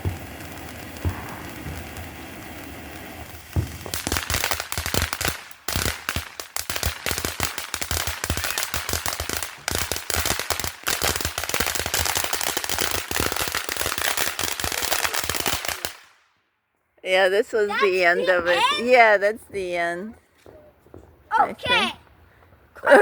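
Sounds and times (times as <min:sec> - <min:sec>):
firework crackling: 0:00.0 - 0:16.3, 0:17.1 - 0:20.1.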